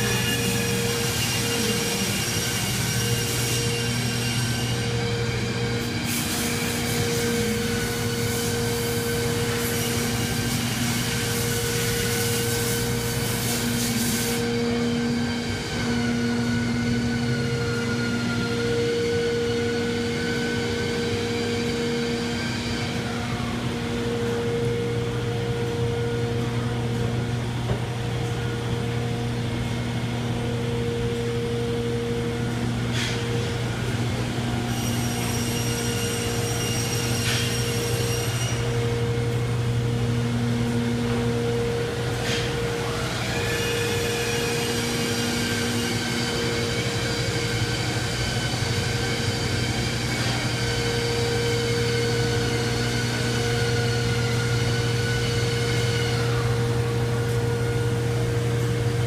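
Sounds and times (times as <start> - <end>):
factory machinery humming: 0.0 - 59.0
high machine whine: 0.0 - 59.0.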